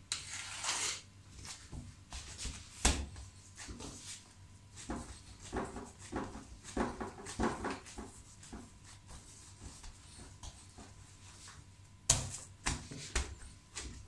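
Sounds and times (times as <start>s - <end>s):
dough scuffing and knocking: 1.3s - 14.0s.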